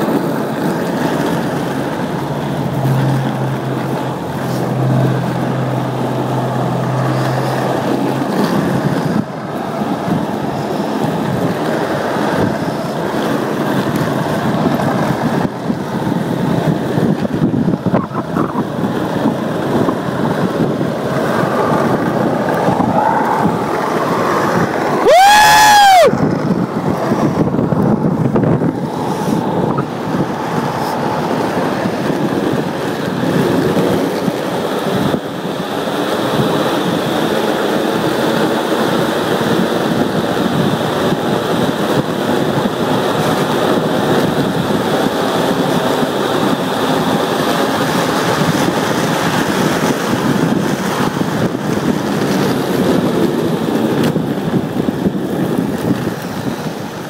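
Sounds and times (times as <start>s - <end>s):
skateboard wheels rolling on asphalt: 0.0s - 57.0s
wind on microphone: 0.0s - 57.0s.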